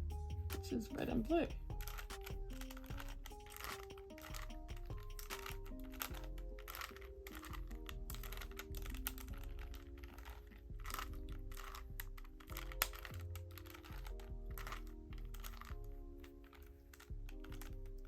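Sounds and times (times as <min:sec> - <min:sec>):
background music with held notes: 0:00.0 - 0:18.0
puzzle cube layers clicking: 0:01.7 - 0:17.8.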